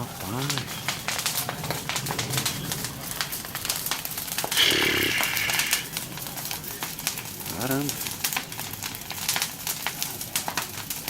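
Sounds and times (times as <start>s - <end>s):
bonfire crackling and popping: 0.0s - 11.0s.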